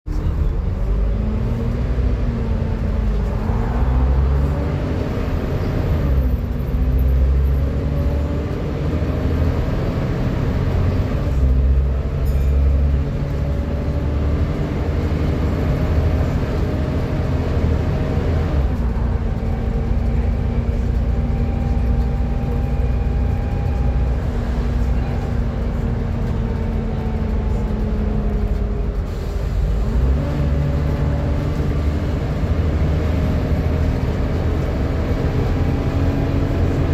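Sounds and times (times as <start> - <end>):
bus engine whine: 0.0 - 36.9.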